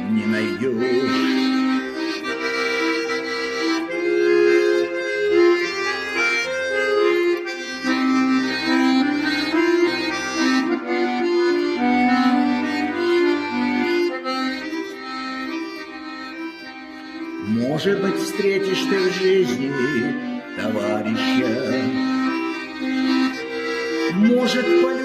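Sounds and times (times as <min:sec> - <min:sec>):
accordion playing slow melody: 0:00.0 - 0:25.0.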